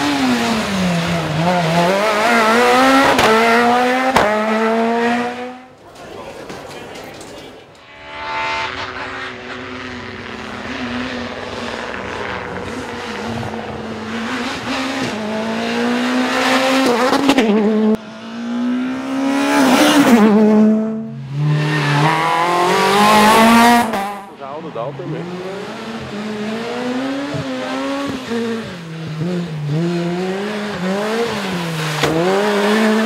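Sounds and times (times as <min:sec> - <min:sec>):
rally car engines accelerating: 0:00.0 - 0:07.3, 0:08.0 - 0:33.0.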